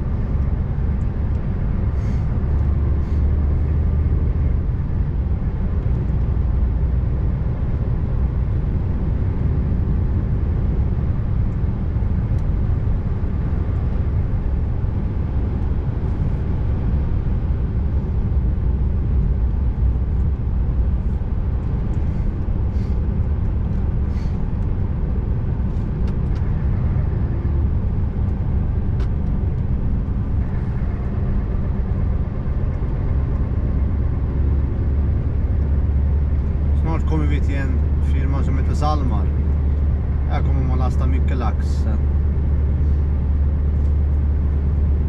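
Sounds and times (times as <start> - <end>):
truck diesel engine droning: 0.0 - 45.0.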